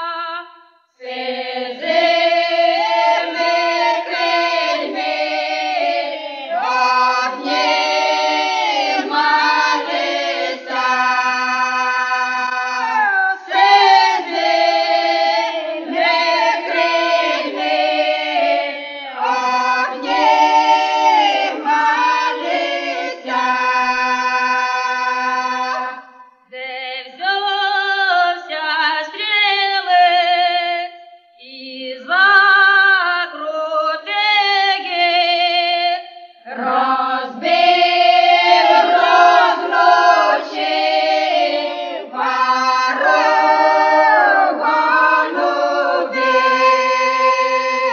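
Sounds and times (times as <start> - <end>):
choir singing: 1.0 - 29.2, 34.0 - 47.9.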